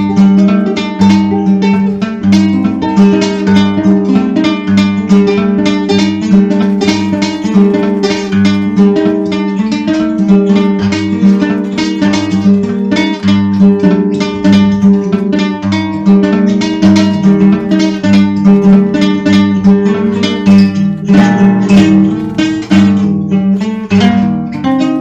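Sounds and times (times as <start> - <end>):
plucked acoustic guitar: 0.0 - 25.0.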